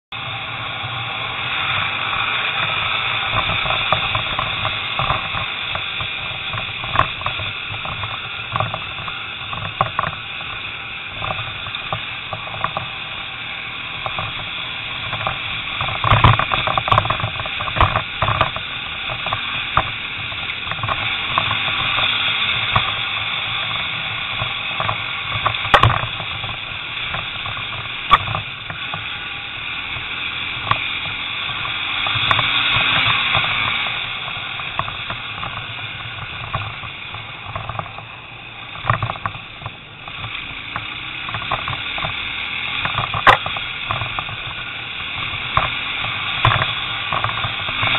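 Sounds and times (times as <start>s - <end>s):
motorbike engine and wind drone: 0.0s - 47.9s
sharp knocks over ruts: 0.8s - 47.9s.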